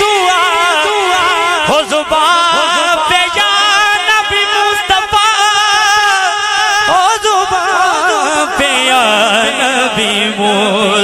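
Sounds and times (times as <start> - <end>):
man singing through loudspeakers: 0.0 - 11.0.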